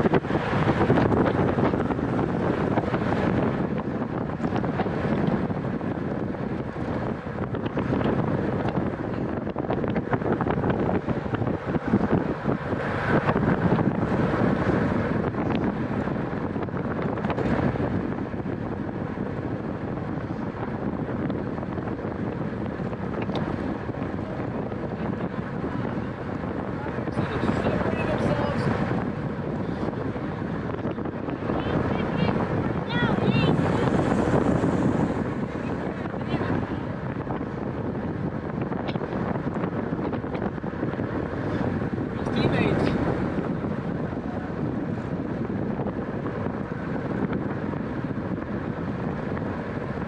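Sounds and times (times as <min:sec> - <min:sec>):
wind rushing over microphone: 0:00.0 - 0:50.0.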